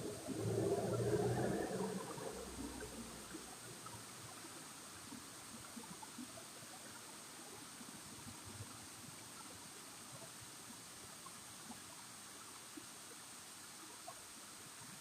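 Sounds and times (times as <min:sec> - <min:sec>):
flowing water: 0:00.0 - 0:15.0.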